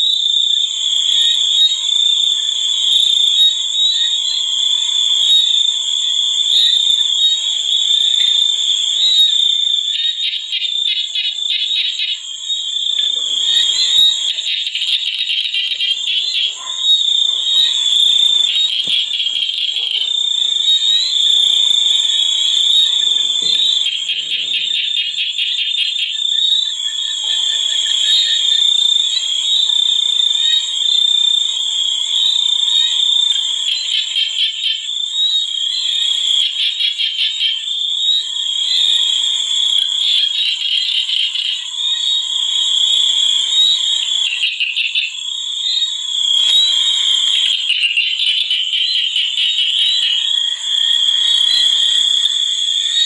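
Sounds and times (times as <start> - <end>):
frogs and insects droning: 0.0 - 53.0.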